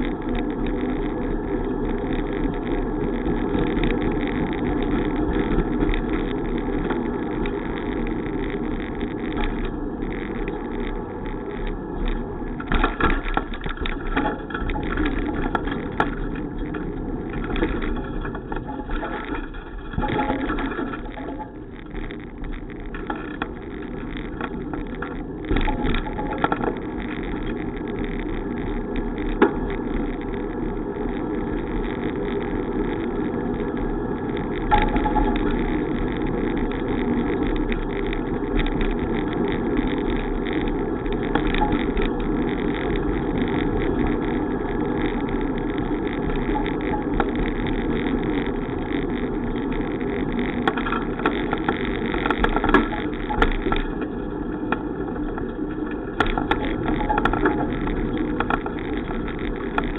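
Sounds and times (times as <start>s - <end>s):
bicycle tyre noise: 0.0s - 59.9s.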